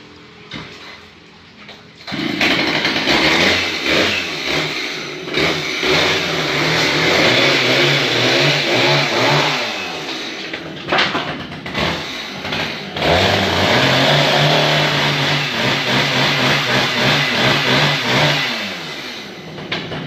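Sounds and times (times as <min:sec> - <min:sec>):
small petrol engine revving: 0:02.0 - 0:20.0.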